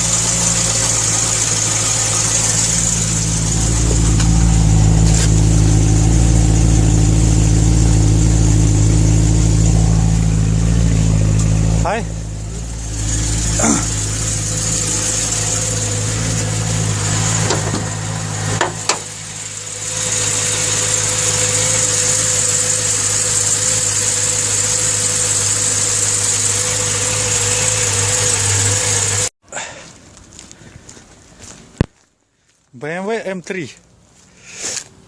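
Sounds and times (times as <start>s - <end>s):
car engine running: 0.0s - 29.3s.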